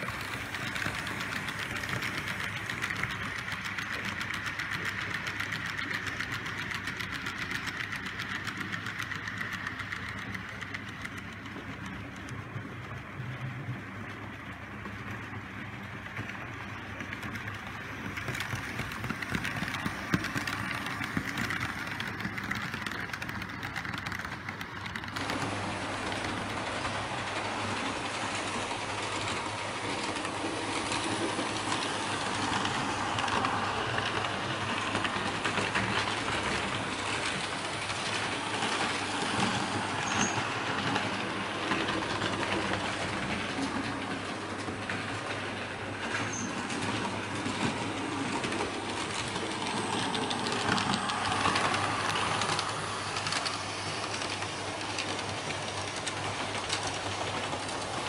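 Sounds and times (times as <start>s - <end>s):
model trains clattering on track: 0.0s - 58.0s.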